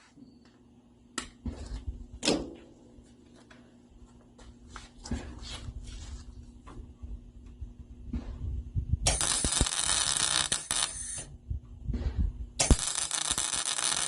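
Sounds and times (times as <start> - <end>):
low equipment hum: 0.0 - 14.0.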